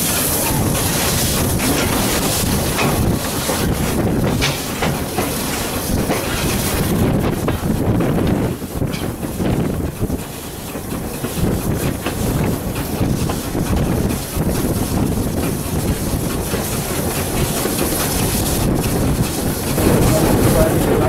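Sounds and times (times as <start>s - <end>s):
train wagons rumbling on rails: 0.0s - 21.0s
wind buffeting microphone: 0.0s - 21.0s.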